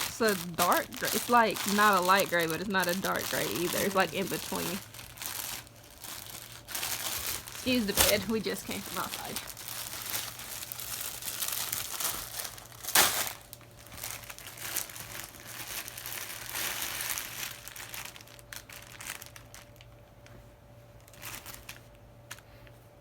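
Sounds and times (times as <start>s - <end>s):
plastic packaging crinkling: 0.0s - 20.3s, 21.0s - 22.5s.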